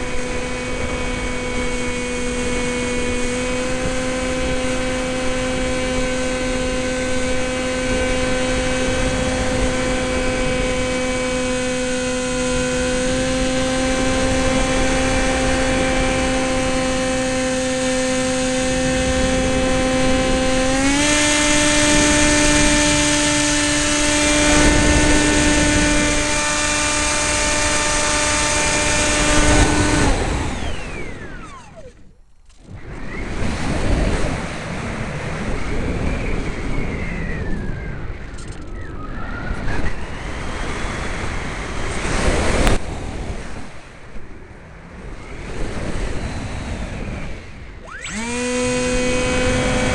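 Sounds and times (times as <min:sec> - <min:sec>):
electric motor and propeller whining: 0:00.0 - 0:49.9.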